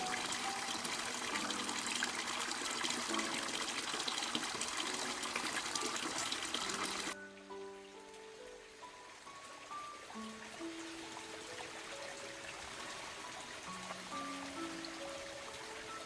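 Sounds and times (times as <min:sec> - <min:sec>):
soft background music: 0:00.0 - 0:16.0
water pouring: 0:00.0 - 0:16.0.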